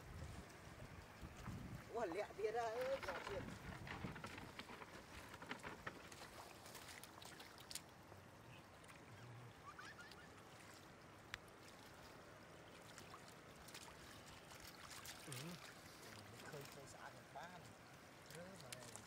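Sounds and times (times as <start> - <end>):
water trickling over road: 0.0 - 19.0.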